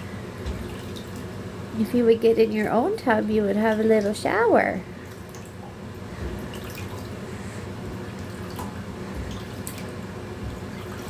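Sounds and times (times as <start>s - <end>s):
water running: 0.0s - 11.0s
water drips and splashes: 0.4s - 1.4s, 2.6s - 7.2s, 7.8s - 11.0s.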